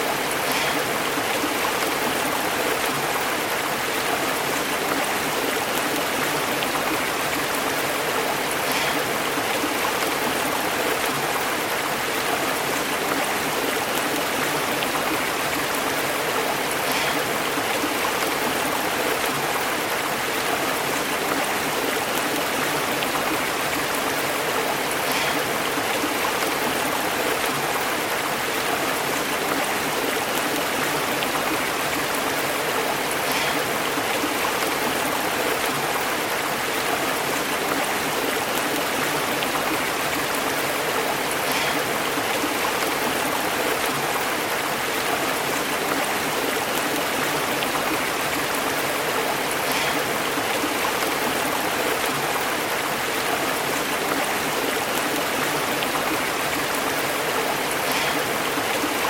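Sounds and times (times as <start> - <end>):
stream burbling over rocks: 0.0 - 59.0.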